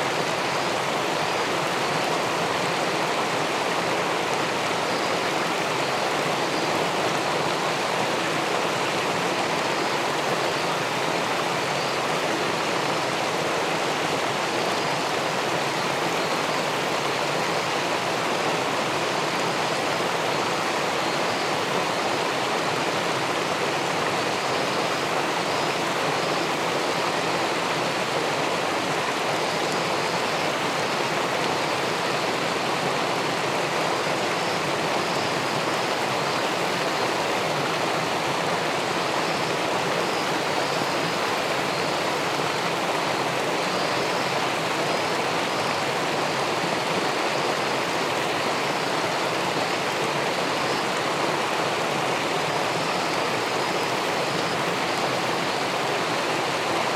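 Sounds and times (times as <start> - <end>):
underwater rush of river water: 0.0 - 56.9.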